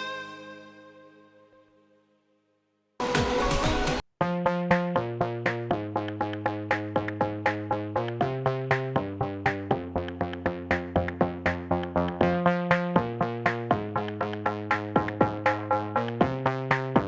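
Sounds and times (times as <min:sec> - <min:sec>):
electronic synthesizer music: 0:03.0 - 0:17.0.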